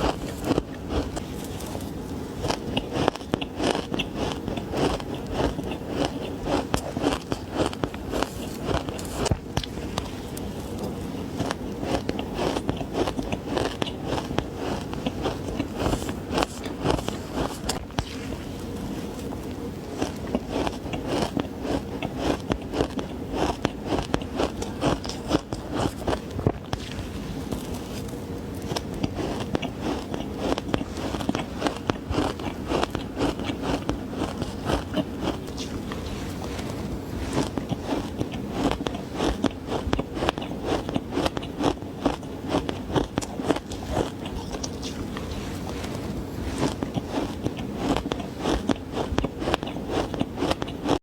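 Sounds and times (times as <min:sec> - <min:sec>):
teeth crunching frozen ice: 0:00.0 - 0:51.0.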